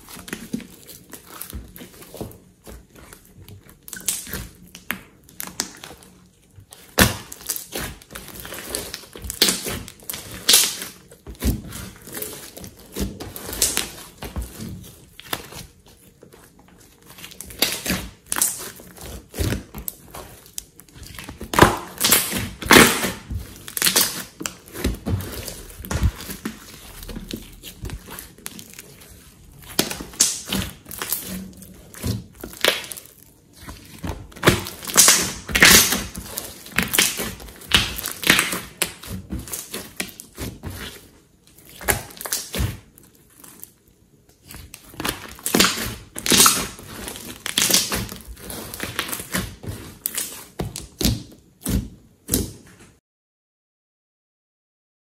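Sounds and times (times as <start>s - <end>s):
slime crackling and popping: 0.0s - 52.5s.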